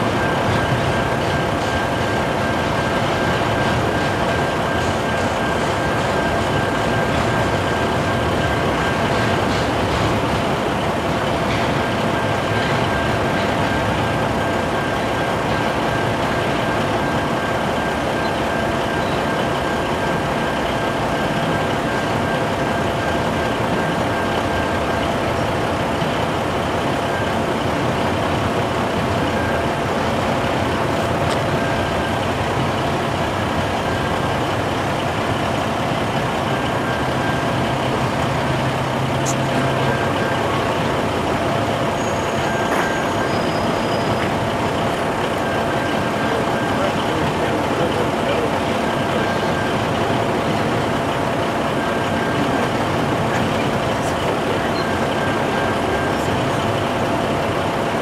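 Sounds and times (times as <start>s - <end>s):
train wheels on rail: 0.0s - 58.0s
truck diesel engine idling: 0.0s - 58.0s.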